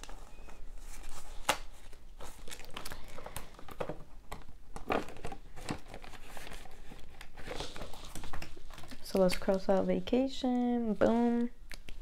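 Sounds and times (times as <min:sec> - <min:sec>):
paper and plastic crinkling: 0:00.0 - 0:12.0.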